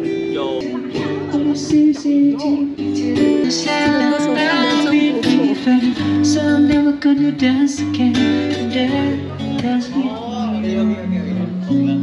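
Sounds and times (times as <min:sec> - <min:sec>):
strummed acoustic guitar: 0:00.0 - 0:12.0
person singing: 0:00.6 - 0:12.0.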